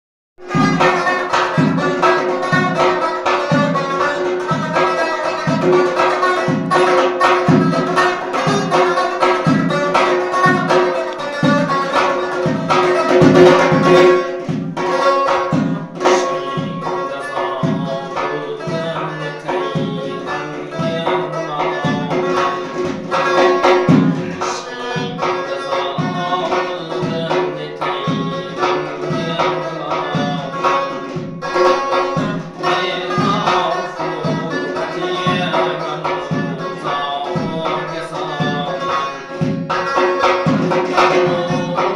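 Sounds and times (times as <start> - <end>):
frame drum struck by hand: 0.4 - 41.9
plucked lute melody: 0.4 - 41.9.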